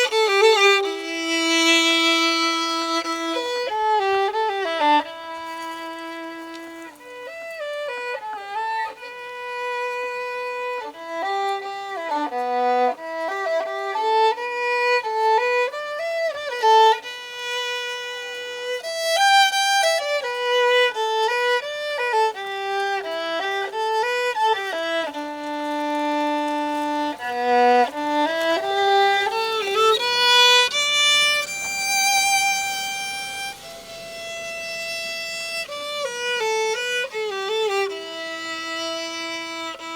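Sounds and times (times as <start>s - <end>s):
slow solo violin melody: 0.0s - 39.9s.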